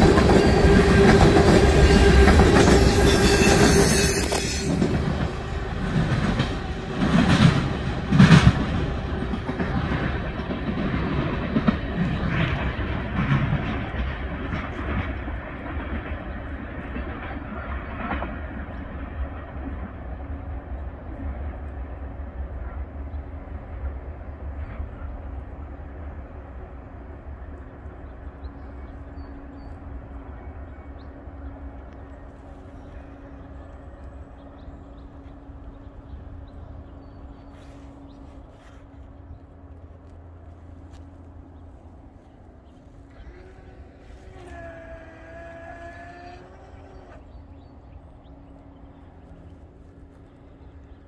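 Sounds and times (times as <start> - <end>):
distant train rumbling: 0.0 - 51.0.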